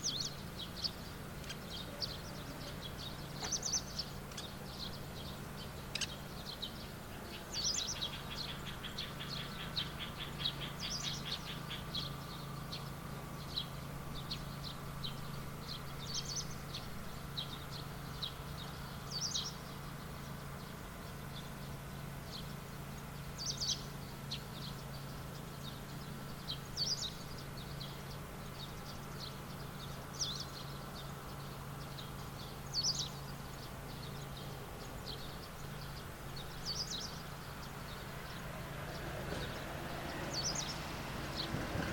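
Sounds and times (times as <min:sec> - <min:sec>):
bird chirps: 0:00.0 - 0:40.8
steady low hum: 0:00.0 - 0:41.9.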